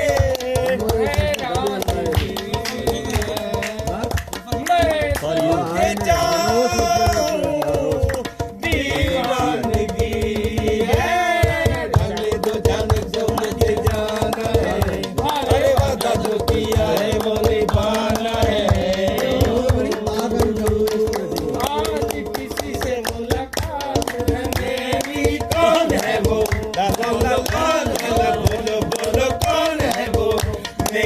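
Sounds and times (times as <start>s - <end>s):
hand drum rhythm: 0.0s - 31.0s
person singing: 0.0s - 31.0s.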